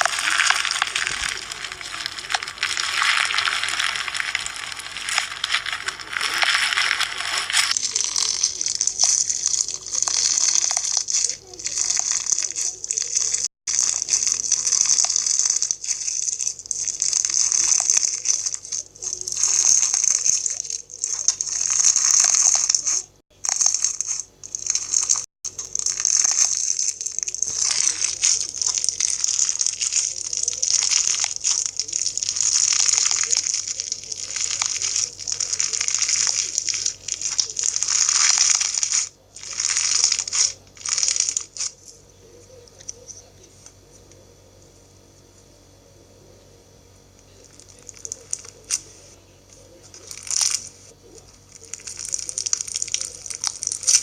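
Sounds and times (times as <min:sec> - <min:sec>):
slime squeezed crackly hiss: 0:00.0 - 0:42.0, 0:47.3 - 0:54.0.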